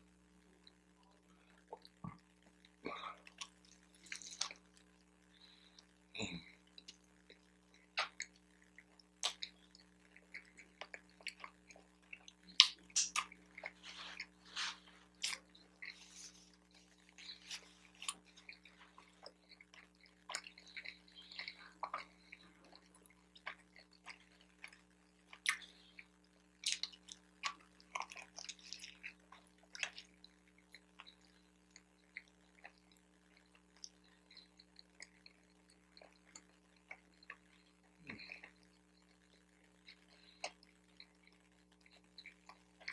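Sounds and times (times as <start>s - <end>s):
mouth chewing food: 0.6s - 42.9s.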